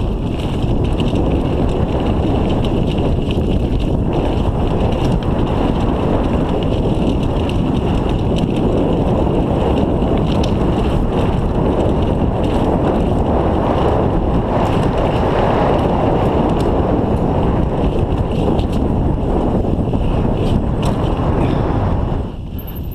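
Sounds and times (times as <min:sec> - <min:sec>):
bike clicks: 0:00.0 - 0:22.9
bike rolling on gravel: 0:00.0 - 0:22.9
wind buffeting the microphone: 0:00.0 - 0:22.9.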